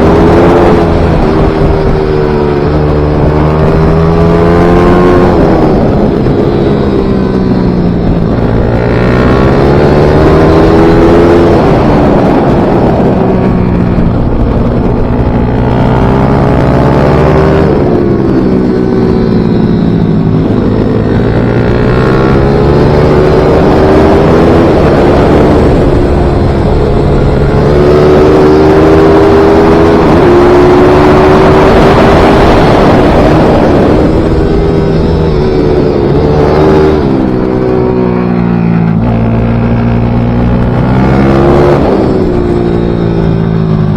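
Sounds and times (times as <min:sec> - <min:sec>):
small motorcycle engine revving: 0:00.0 - 0:43.9.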